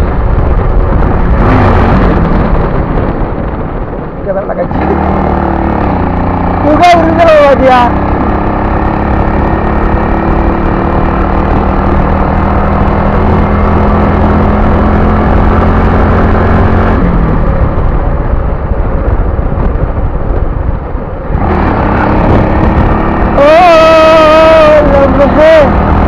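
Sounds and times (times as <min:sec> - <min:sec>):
motorcycle engine running: 0:00.0 - 0:26.0
rough rushing noise: 0:00.0 - 0:26.0.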